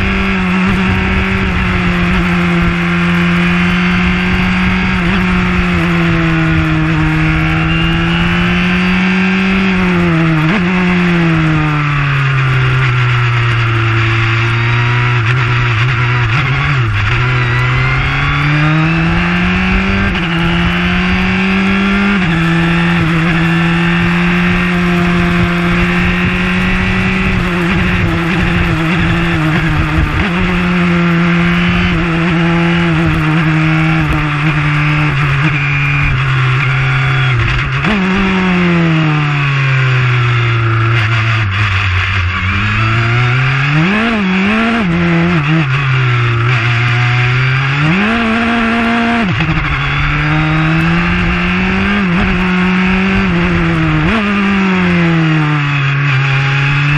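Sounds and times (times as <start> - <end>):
racing car engine running hard: 0.0 - 56.9.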